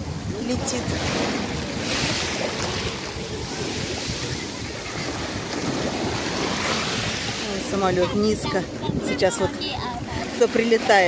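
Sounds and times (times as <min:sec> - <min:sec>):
small waves washing in shallows: 0:00.0 - 0:11.0
wind buffeting microphone: 0:00.0 - 0:11.0.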